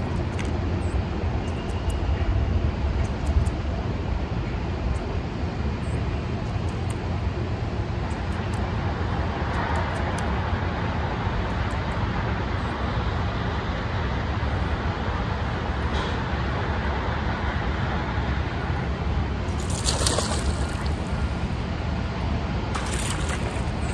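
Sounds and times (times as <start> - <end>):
outdoor rumble and hiss: 0.0 - 23.9.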